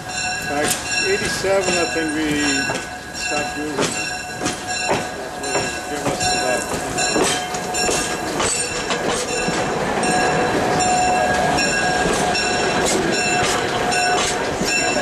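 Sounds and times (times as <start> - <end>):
diesel railcar rolling past: 0.0 - 15.0.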